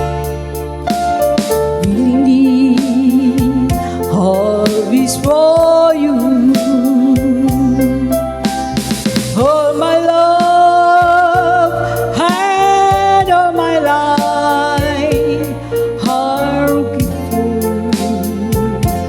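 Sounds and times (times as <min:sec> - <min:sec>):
live band playing: 0:00.0 - 0:19.0
woman singing: 0:01.8 - 0:08.2, 0:09.3 - 0:19.0.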